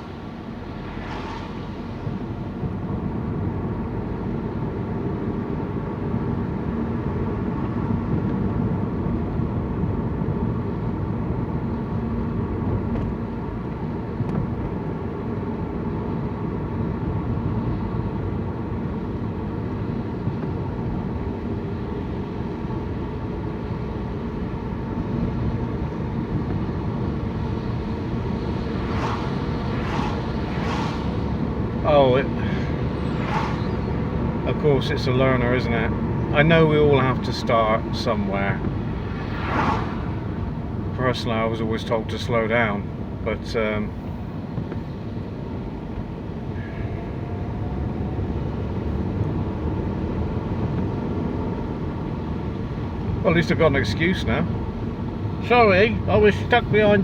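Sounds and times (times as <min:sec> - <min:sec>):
car engine drone: 0:00.0 - 0:57.0
road noise inside car: 0:00.0 - 0:57.0.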